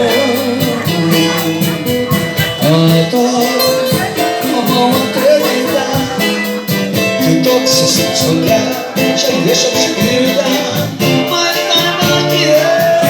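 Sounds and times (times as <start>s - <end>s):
plucked strings: 0.0s - 12.5s
percussion keeping quick beat: 0.0s - 13.0s.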